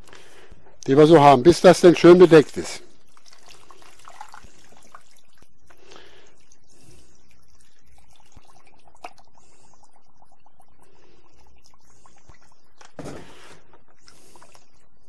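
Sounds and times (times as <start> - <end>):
brine trickling and splashing: 2.4 - 14.7.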